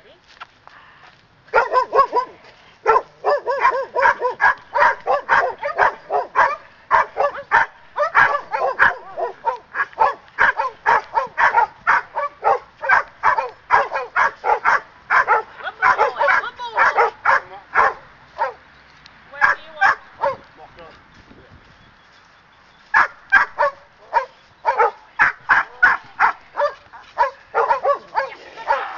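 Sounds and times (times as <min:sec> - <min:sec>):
dog barking aggressively: 0:01.5 - 0:18.6, 0:19.4 - 0:20.4, 0:23.0 - 0:28.9.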